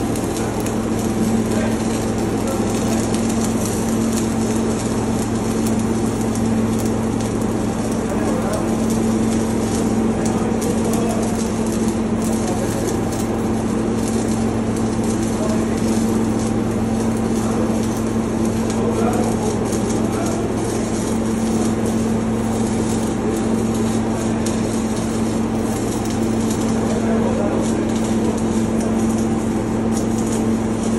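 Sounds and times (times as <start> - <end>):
low machinery hum: 0.0 - 30.9
welding arc crackling: 0.0 - 30.9.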